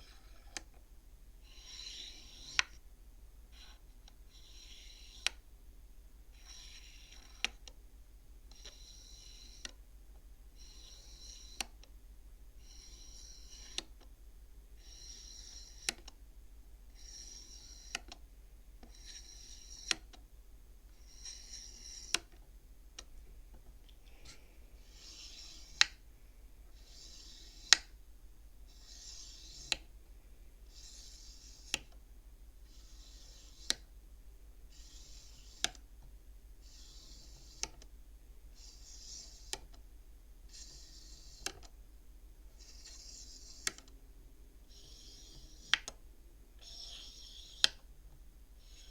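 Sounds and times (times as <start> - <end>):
abacus bead sliding and clicking: 0.0 - 0.8, 1.4 - 2.8, 3.5 - 5.5, 6.3 - 7.8, 8.5 - 9.8, 10.5 - 12.0, 12.6 - 14.1, 14.8 - 16.2, 16.9 - 20.3, 20.9 - 30.0, 30.6 - 34.0, 34.6 - 41.8, 42.4 - 48.9
faint low hum: 0.0 - 48.9.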